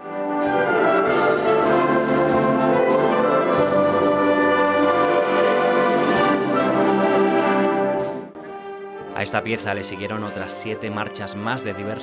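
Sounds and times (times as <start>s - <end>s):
concert band playing a march: 0.0s - 12.0s.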